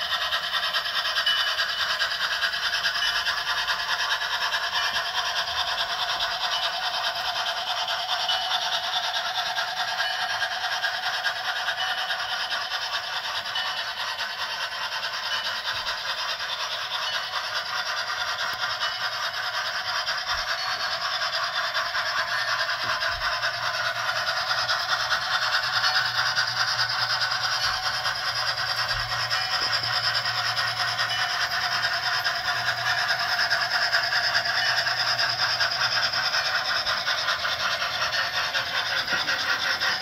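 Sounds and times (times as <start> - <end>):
model train wheels rattling: 0.0 - 40.0.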